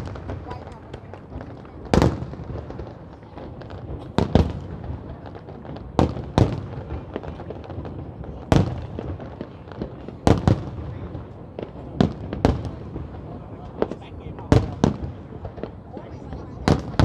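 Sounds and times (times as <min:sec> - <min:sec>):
fireworks bursting with bangs: 0:00.0 - 0:17.0
fireworks pops and crackle: 0:00.0 - 0:17.0.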